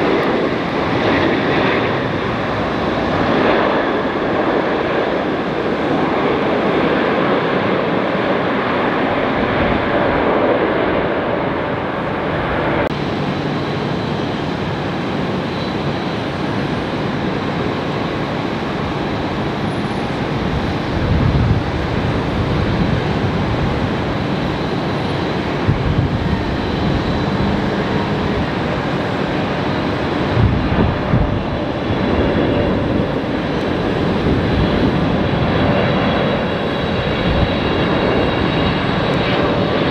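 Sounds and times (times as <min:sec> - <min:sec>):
jet airliner engines: 0:00.0 - 0:39.9.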